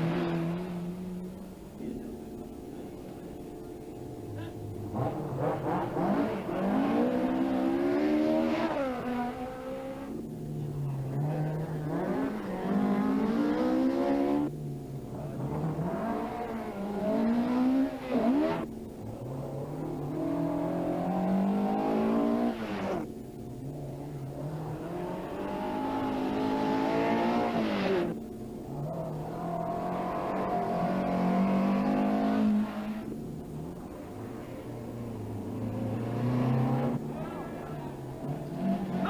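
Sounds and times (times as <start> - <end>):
car engine revving through gears: 0.0 - 3.6, 4.6 - 39.0.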